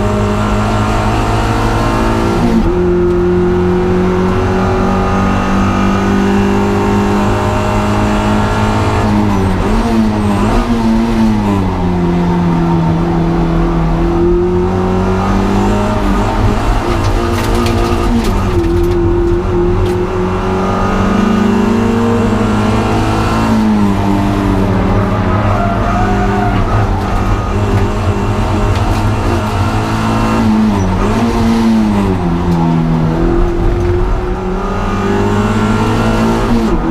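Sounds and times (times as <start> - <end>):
car engine at high revs: 0.0 - 36.9.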